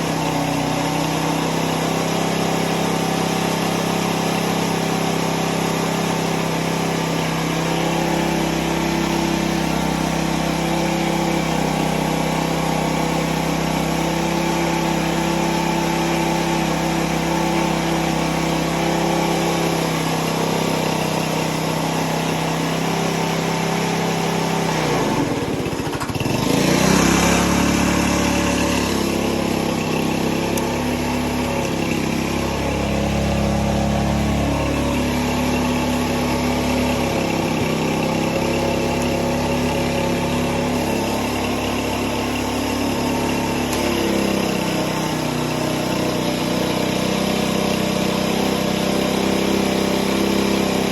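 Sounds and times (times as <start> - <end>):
small gas engine running: 0.0 - 50.9.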